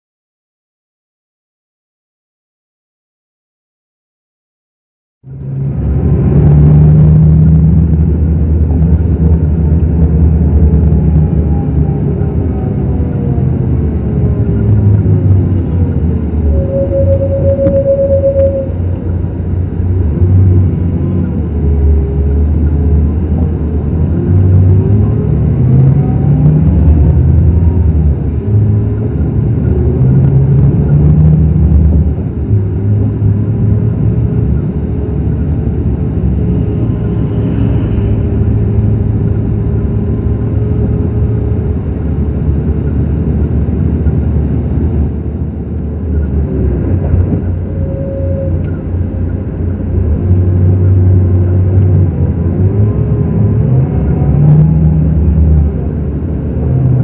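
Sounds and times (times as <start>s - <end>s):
diesel coach engine running: 5.2s - 57.0s.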